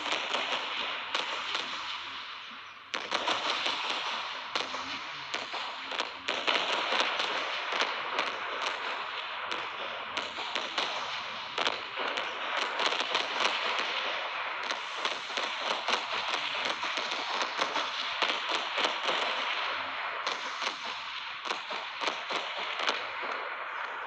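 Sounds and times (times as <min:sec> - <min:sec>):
firecrackers crackling and popping: 0:00.0 - 0:24.0.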